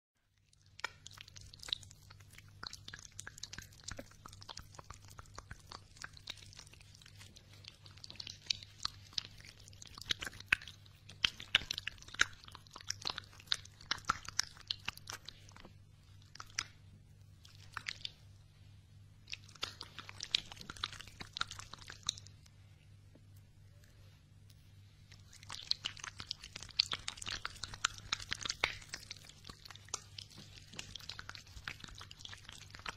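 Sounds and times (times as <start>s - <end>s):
faint low hum: 0.2s - 32.9s.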